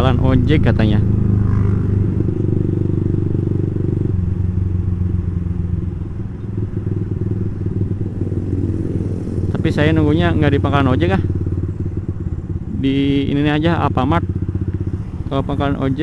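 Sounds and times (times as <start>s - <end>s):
motorcycle exhaust note: 0.0s - 16.0s.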